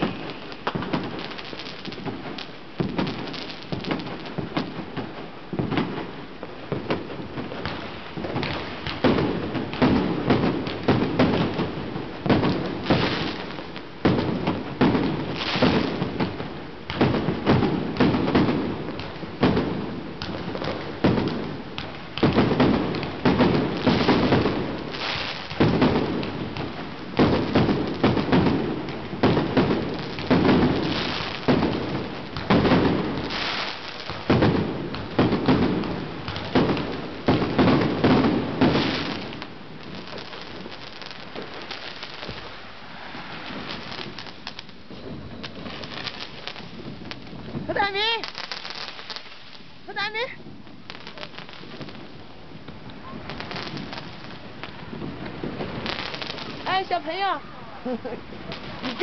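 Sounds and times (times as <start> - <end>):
fireworks banging: 0.0 - 59.0
fireworks crackling: 0.0 - 59.0.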